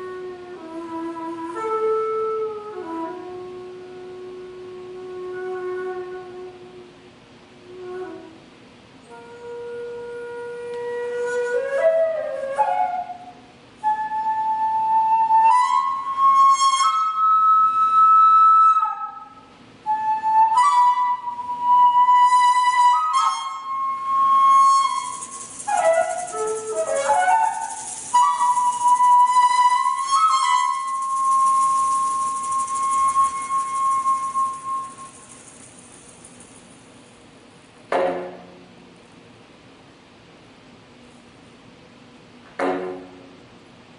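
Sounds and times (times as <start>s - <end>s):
bamboo flute slow melody: 0.0s - 36.8s.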